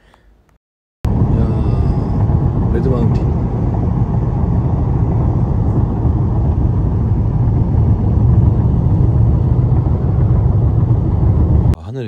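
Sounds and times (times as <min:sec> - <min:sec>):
car road and engine rumble: 0:01.1 - 0:11.8.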